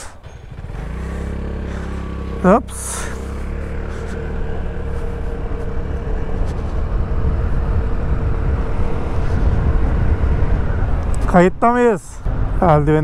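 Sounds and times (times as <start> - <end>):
scooter engine running: 0.0 - 11.0
road and wind noise: 0.0 - 13.0.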